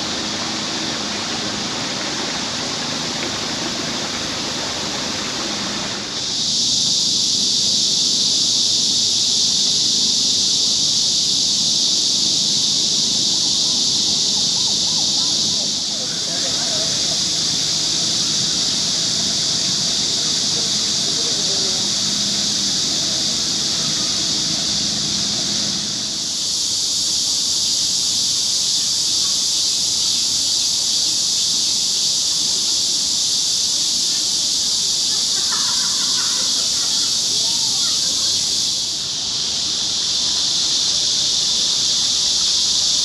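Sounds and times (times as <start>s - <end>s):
cicadas buzzing: 0.0s - 43.0s.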